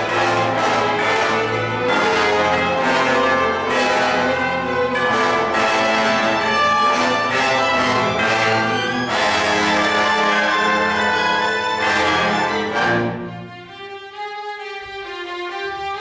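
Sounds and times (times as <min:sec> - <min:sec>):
accented orchestral strikes: 0:00.0 - 0:13.6
orchestra playing loudly: 0:00.0 - 0:16.0.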